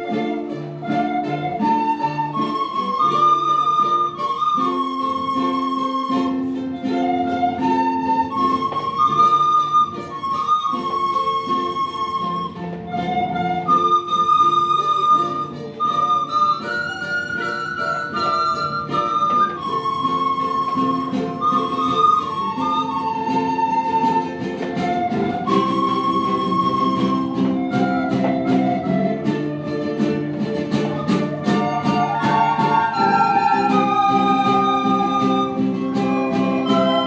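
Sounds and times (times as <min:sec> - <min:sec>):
flutes playing slow melody: 0:00.0 - 0:37.0
strummed guitar chords: 0:00.0 - 0:37.0.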